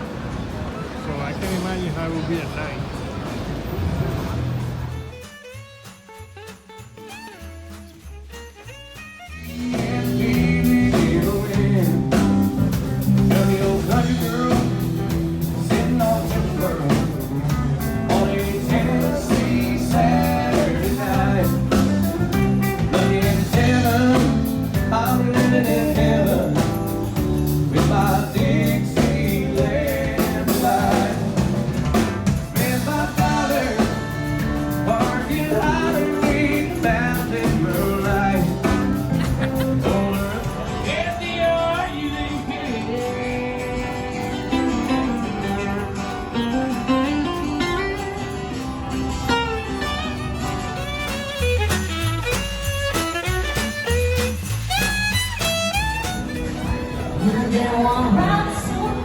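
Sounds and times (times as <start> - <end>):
band playing with singer: 9.4 - 59.0.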